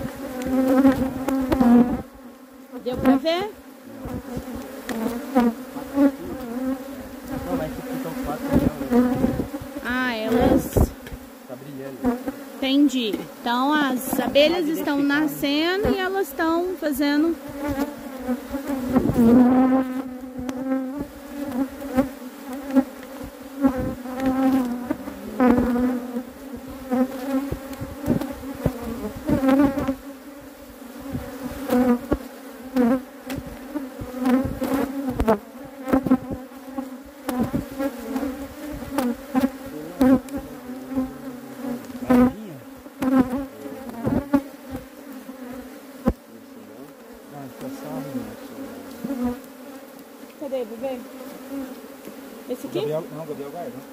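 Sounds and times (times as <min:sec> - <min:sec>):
bees buzzing: 0:00.0 - 0:53.9.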